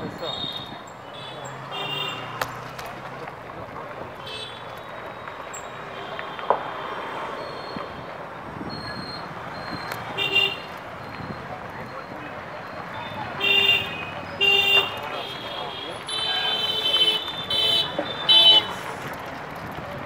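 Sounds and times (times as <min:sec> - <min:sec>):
road and wind noise: 0:00.0 - 0:20.0
vehicle horns tooting: 0:00.1 - 0:02.6, 0:04.2 - 0:08.0, 0:08.8 - 0:19.2.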